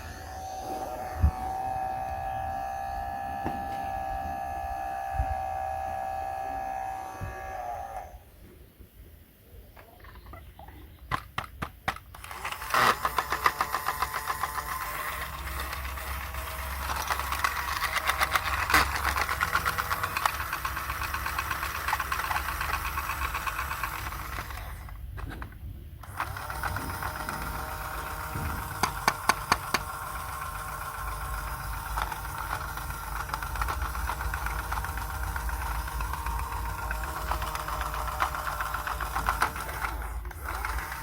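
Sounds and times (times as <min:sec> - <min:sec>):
small electric motor rattling: 0:00.0 - 0:08.2, 0:11.1 - 0:41.0.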